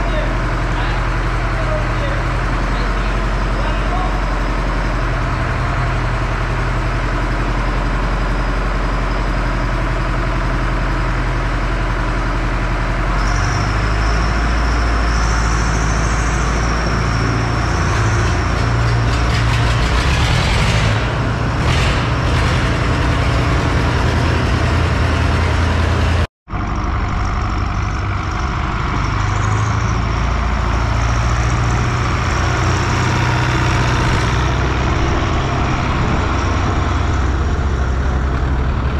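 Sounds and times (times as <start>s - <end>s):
large vehicle engine running: 0.0s - 38.9s.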